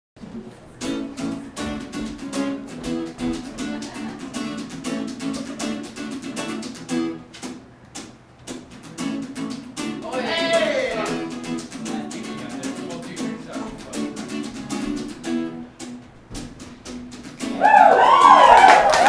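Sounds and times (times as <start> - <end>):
acoustic guitar strumming: 0.2 - 18.3.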